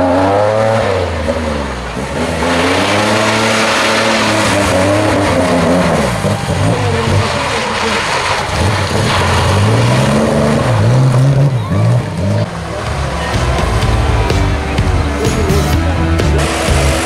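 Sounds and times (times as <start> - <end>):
car engine revving: 0.0 - 17.0
tyres churning loose dirt: 0.2 - 17.0.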